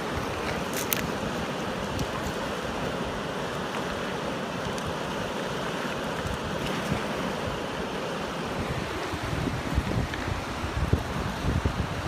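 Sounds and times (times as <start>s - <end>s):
river rushing over stones: 0.0s - 12.0s.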